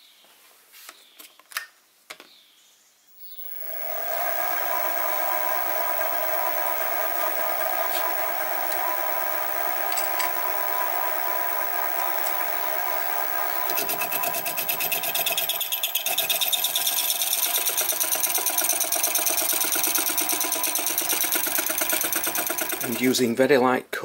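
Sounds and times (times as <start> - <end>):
milling saw whine: 3.2 - 23.3
saw cutting metal: 3.4 - 23.2.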